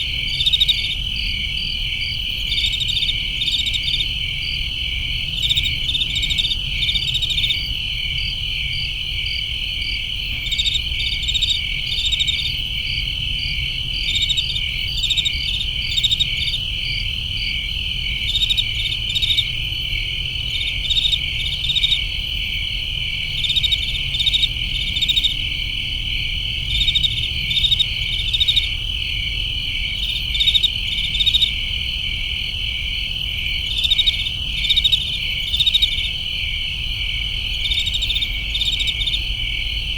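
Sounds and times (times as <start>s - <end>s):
crickets trilling: 0.0s - 39.9s
insects chirping in pulses: 0.0s - 39.9s.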